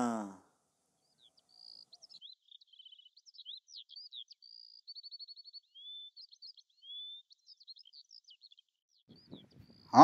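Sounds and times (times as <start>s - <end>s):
faint birdsong: 0.0s - 10.0s.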